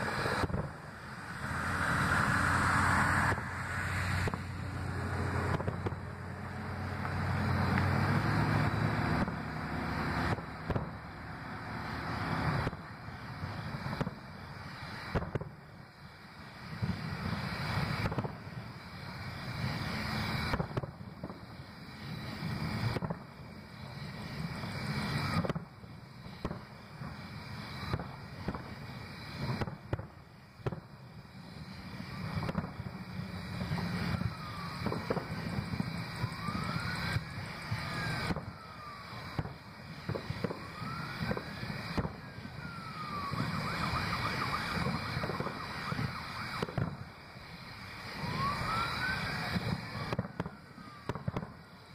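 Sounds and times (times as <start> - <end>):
distant fireworks booming: 0.0 - 51.9
fireworks whistling: 0.0 - 51.9.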